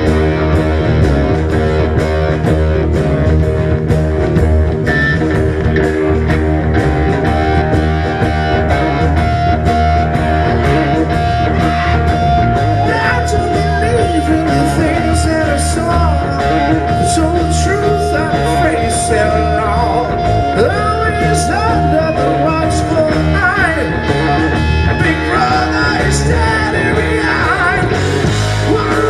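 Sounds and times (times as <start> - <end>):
bass guitar: 0.0 - 29.0
electric guitar: 0.0 - 29.0
steady drum beat: 0.0 - 29.0.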